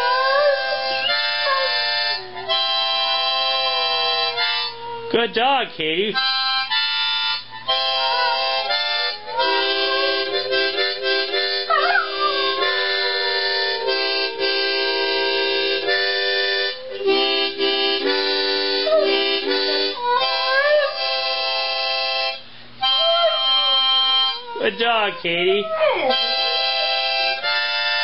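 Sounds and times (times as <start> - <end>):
dog howling: 0.0 - 5.3, 7.6 - 21.6, 22.8 - 27.1
harmonica chords: 0.0 - 28.0.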